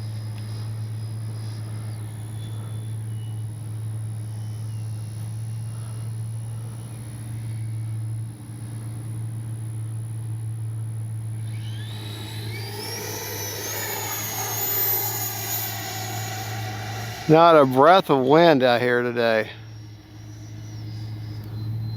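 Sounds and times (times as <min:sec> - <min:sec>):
ducted fan whine rising in pitch: 0:00.0 - 0:21.9.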